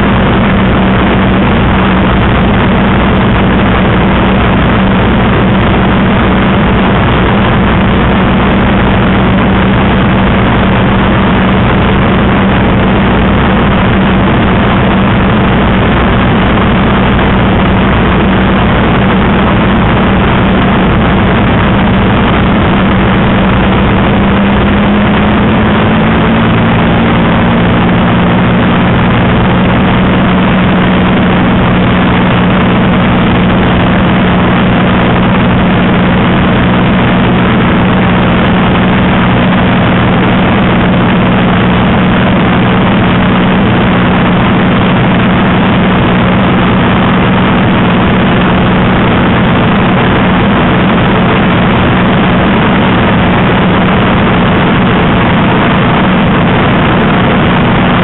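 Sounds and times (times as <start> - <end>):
airflow noise: 0.0 - 58.0
piston aircraft engine droning: 0.0 - 58.0.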